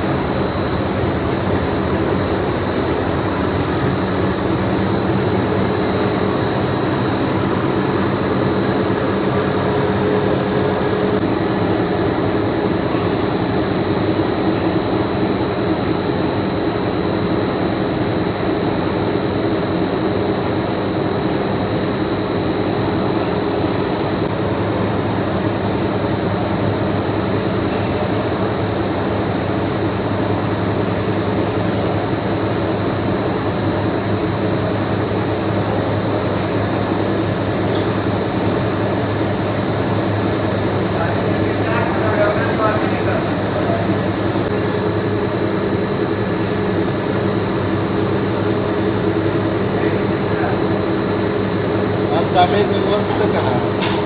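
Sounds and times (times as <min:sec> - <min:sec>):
factory machinery hum: 0:00.0 - 0:54.0.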